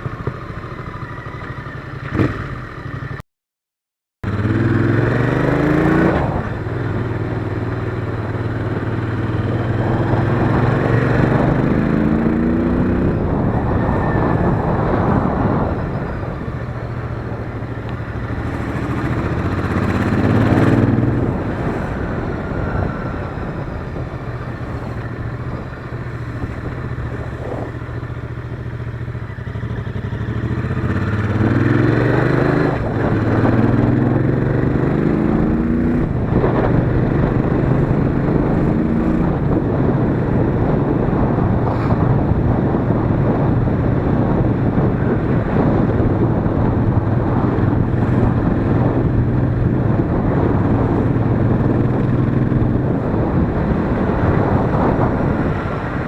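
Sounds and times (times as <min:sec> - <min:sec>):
motorcycle engine accelerating: 0:00.0 - 0:03.2, 0:04.2 - 0:56.0.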